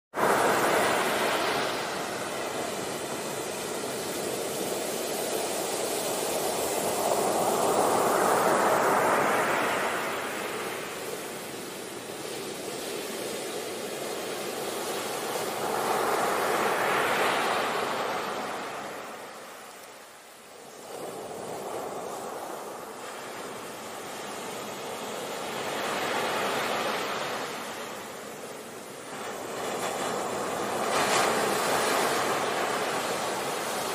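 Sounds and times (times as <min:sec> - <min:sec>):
ocean waves surging: 0:00.2 - 0:33.9.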